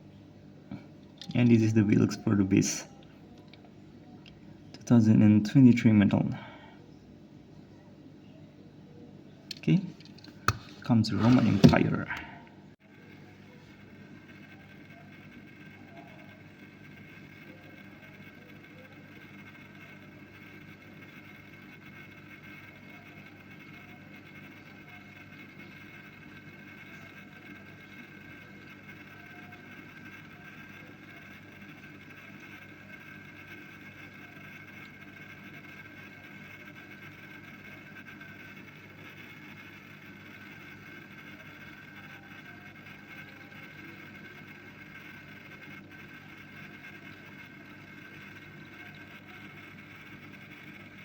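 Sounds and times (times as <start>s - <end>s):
steady background hum: 0.0s - 51.0s.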